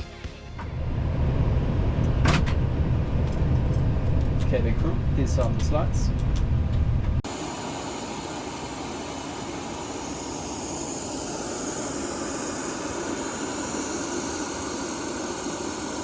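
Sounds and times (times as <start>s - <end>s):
rushing aircraft noise: 0.6s - 16.0s.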